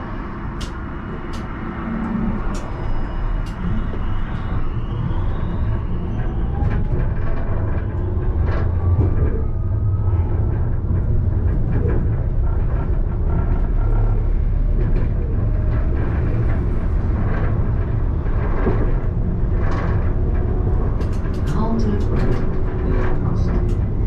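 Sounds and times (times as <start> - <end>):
tram clicks: 0.0 - 24.0
tram rumbling: 0.0 - 24.0.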